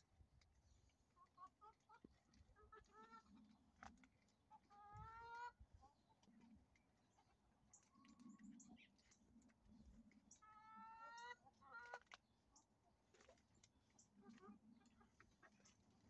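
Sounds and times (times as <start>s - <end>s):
hens clucking: 1.0s - 13.3s, 13.9s - 16.0s.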